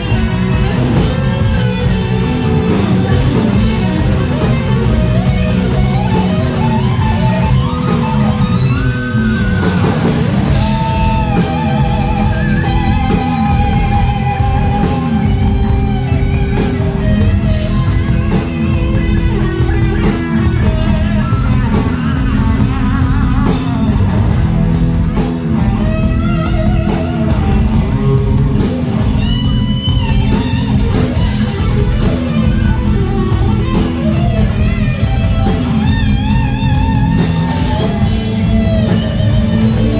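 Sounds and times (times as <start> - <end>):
bass guitar: 0.0 - 39.9
electric guitar lead: 0.0 - 39.9
steady drum beat: 0.0 - 39.9.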